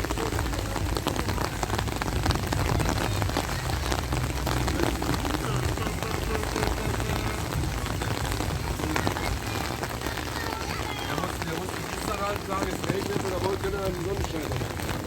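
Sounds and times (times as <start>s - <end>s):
low rain rumble: 0.0s - 15.0s
raindrops ticking: 0.0s - 15.0s.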